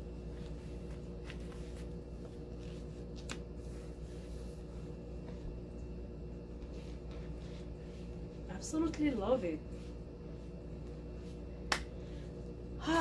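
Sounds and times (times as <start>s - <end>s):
clothing rustling: 0.0s - 12.4s
steady low hum: 0.0s - 13.0s.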